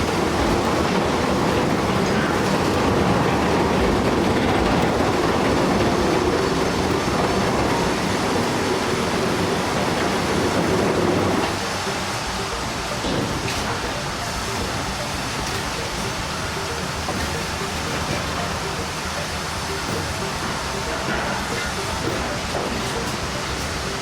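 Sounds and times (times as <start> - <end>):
heavy diesel machinery rumbling: 0.0 - 24.0.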